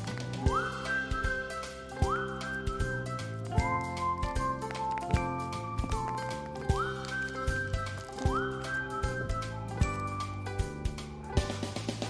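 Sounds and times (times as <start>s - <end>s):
music with beat and whistle notes: 0.0s - 12.0s.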